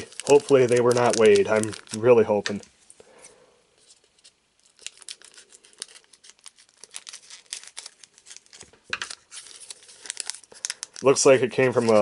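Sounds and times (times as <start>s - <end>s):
foil wrapper crinkling and tearing: 0.0s - 2.6s, 3.8s - 12.0s.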